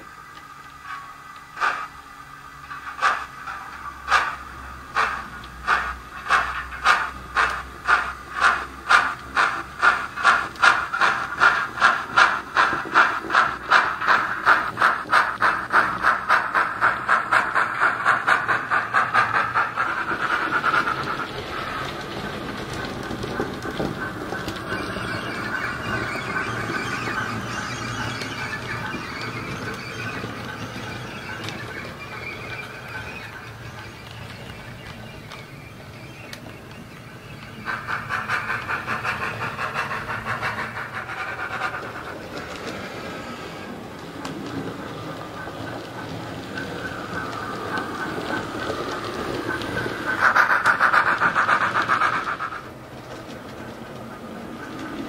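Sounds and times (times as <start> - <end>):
model steam locomotive chuffs: 0.0 - 55.0.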